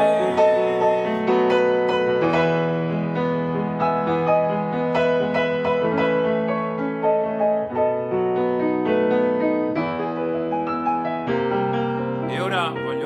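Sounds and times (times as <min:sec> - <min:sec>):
solo grand piano melody: 0:00.0 - 0:13.0.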